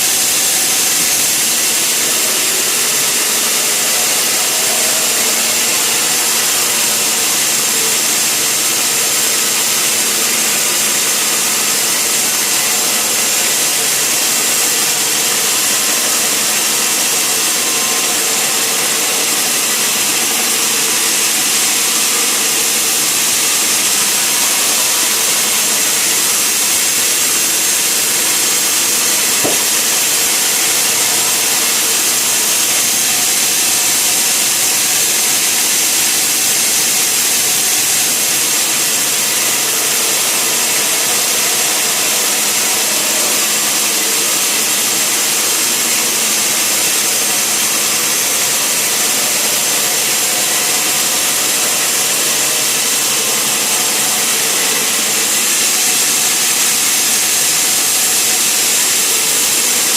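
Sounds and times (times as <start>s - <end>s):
saw cutting through timber: 0.0s - 59.9s.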